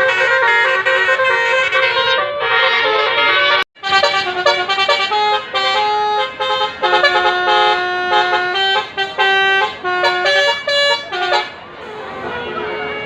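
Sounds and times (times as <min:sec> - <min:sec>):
musical bus horns melody: 0:00.0 - 0:13.0.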